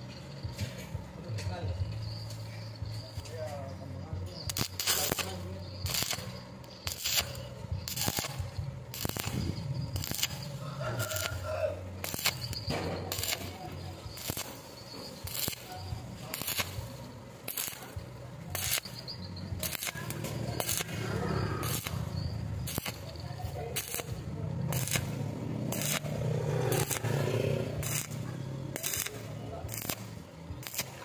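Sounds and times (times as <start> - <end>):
steady low hum: 0.0 - 31.0
welding arc crackling and popping: 4.3 - 31.0.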